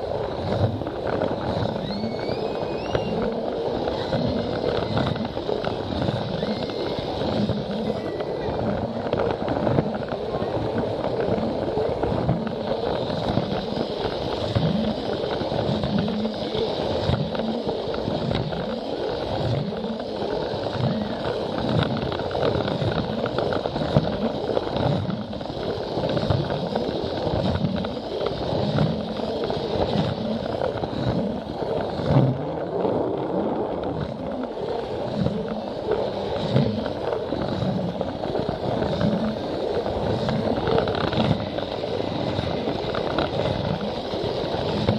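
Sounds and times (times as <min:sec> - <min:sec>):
toy train motor whirring: 0:00.0 - 0:44.9.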